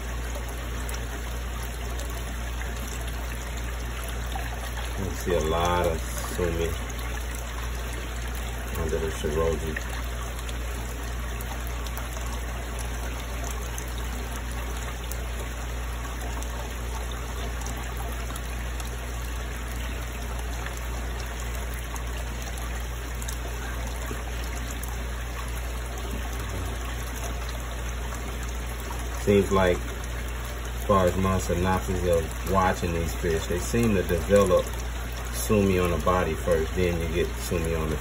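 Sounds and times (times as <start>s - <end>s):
continuous low hum: 0.0s - 38.0s
trickle of running water: 0.0s - 38.0s.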